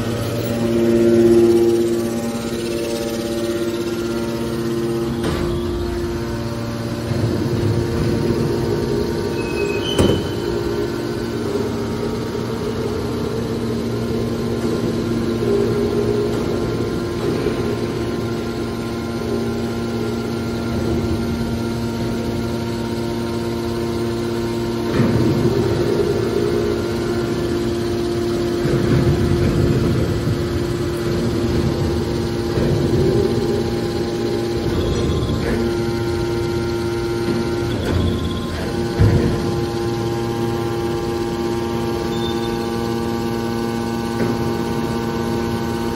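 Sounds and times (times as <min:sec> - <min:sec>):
baler motor humming: 0:00.0 - 0:45.9.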